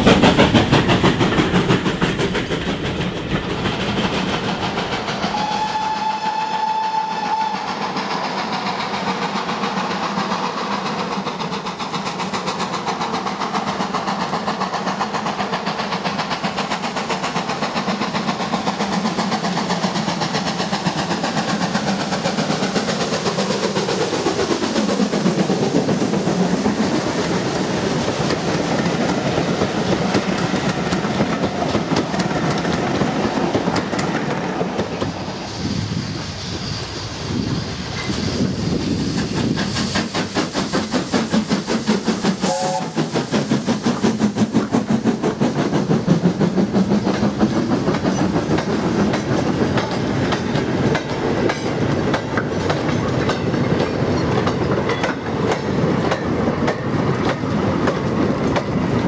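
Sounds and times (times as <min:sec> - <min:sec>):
steam locomotive passing: 0:00.0 - 0:59.0.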